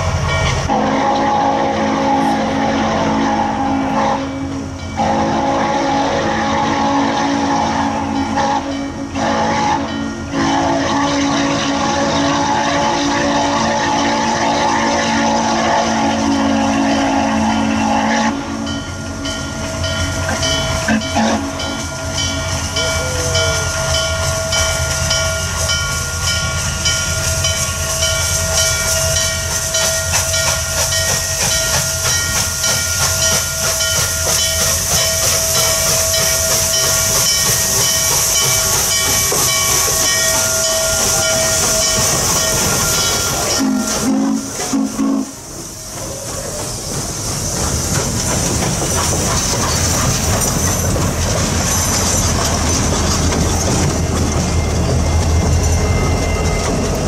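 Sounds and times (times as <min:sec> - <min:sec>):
locomotive exhaust beat: 0:00.0 - 0:57.0
steam hiss: 0:00.0 - 0:57.0
steam locomotive whistle: 0:00.6 - 0:46.9.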